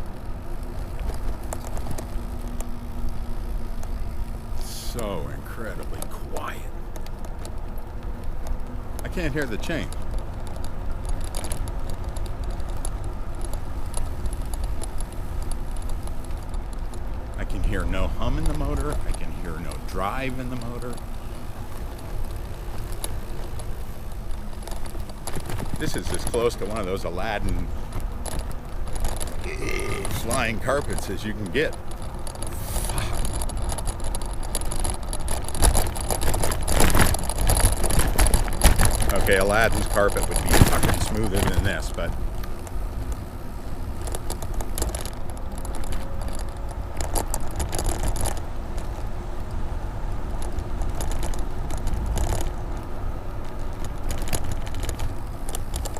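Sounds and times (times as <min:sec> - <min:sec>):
bike ticking and rattling: 0:00.0 - 0:55.9
low riding rumble: 0:00.0 - 0:55.9.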